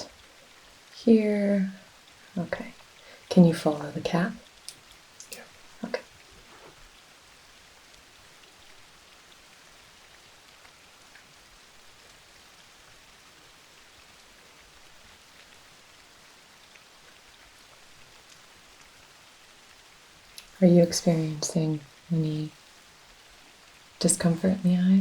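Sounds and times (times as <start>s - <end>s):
light rain falling: 0.0s - 25.0s
rain drop ticks: 0.0s - 25.0s.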